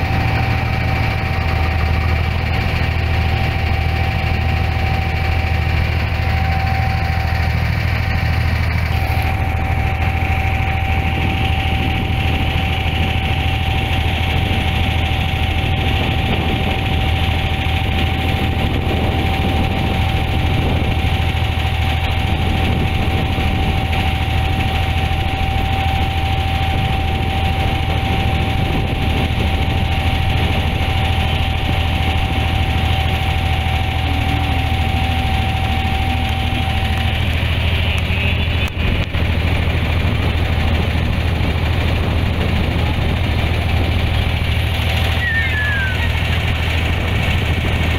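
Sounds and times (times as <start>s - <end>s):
boat engine humming: 0.0s - 47.9s
water rushing along hull: 0.0s - 47.9s.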